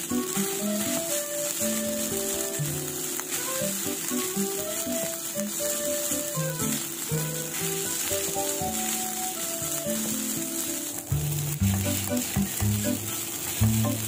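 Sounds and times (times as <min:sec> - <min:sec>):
background music: 0:00.0 - 0:14.0
metal spatula stirring: 0:00.0 - 0:14.0
rice sizzling in a frying pan: 0:00.0 - 0:14.0.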